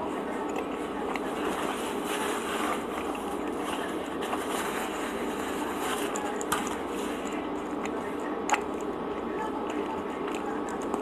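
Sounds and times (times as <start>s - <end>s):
close chewing: 0.0s - 11.0s
steady background noise: 0.0s - 11.0s.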